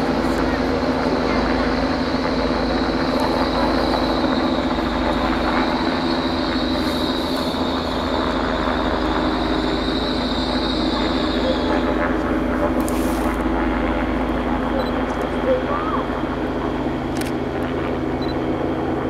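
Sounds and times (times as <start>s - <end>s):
train rumbling past: 0.0s - 17.1s
high train whine: 0.0s - 19.0s.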